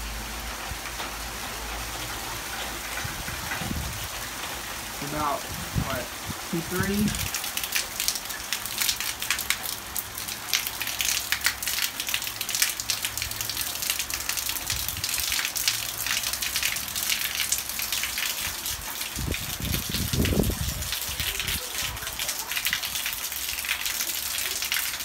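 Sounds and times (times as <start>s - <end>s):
heavy rain and hail: 0.0s - 25.0s.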